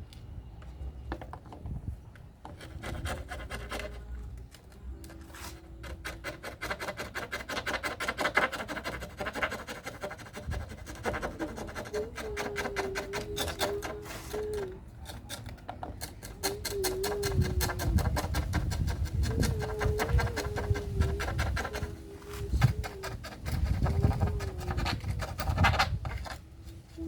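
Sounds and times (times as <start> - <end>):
rhythmic filing strokes: 2.5 - 4.2, 5.1 - 27.0.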